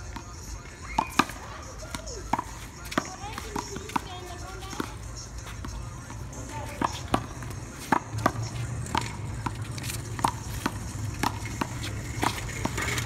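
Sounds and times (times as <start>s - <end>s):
handball smacking wall and pavement: 0.0s - 13.0s.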